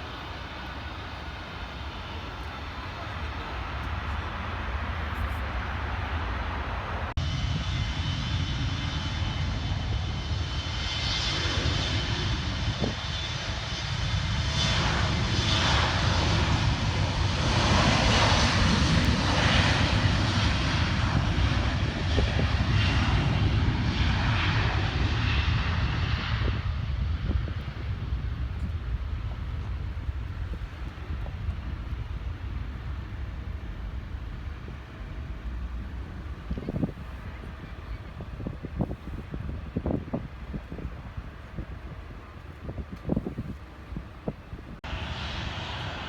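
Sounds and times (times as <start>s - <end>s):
jet airliner engines rushing: 0.0s - 46.0s.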